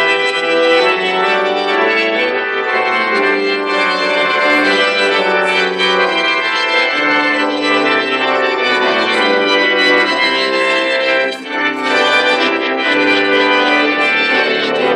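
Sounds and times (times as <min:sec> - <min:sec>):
organ playing held chords: 0:00.0 - 0:14.9.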